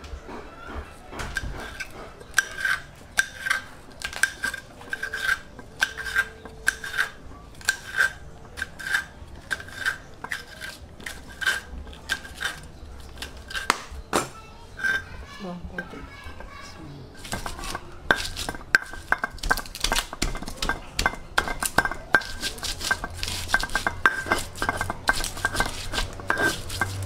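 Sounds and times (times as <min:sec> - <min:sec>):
metal utensil scraping metal pan: 0:01.4 - 0:13.8, 0:14.7 - 0:15.2, 0:15.8 - 0:27.0.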